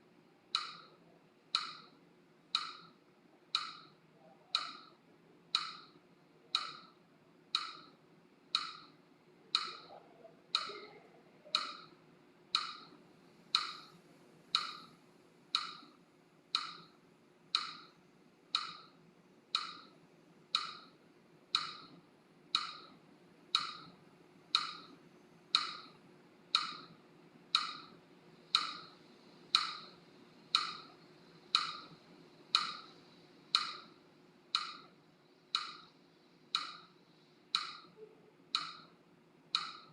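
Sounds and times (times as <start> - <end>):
metronome clicks ticking: 0.5 - 39.9.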